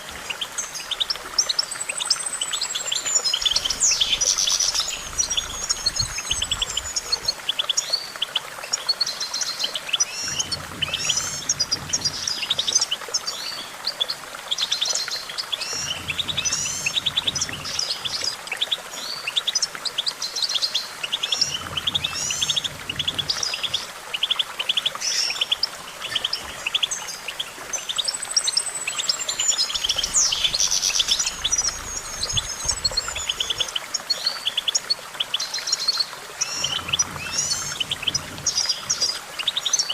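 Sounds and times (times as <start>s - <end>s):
finch singing: 0.2s - 39.9s.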